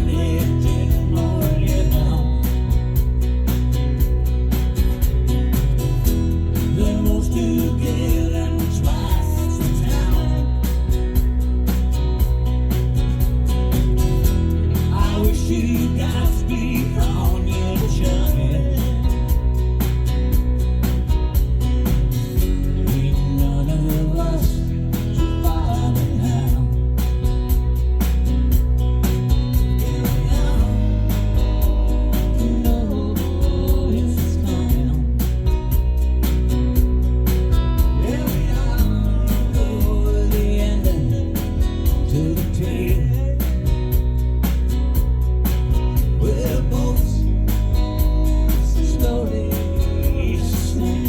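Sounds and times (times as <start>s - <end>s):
country rock band playing: 0.0s - 51.0s
melodic lead guitar line: 0.0s - 51.0s.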